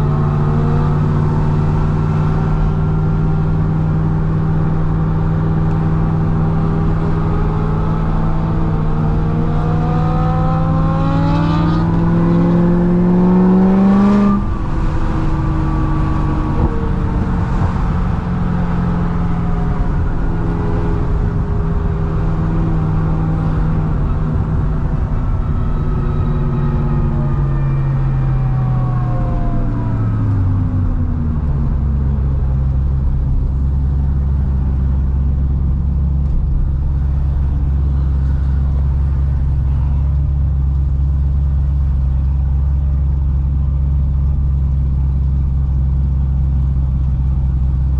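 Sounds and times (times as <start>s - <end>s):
car engine revving under load: 0.0s - 47.7s
supercharger whine: 0.0s - 47.9s.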